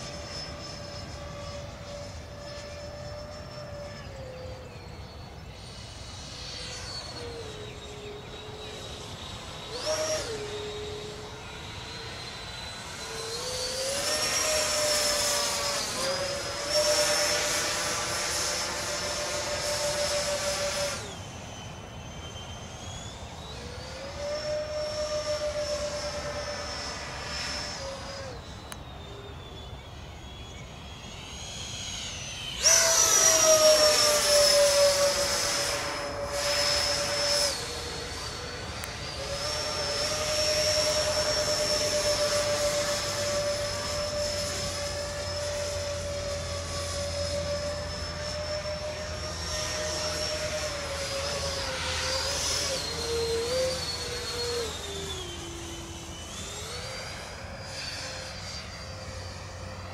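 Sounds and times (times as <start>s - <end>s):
model jet fans whining: 0.0s - 59.9s.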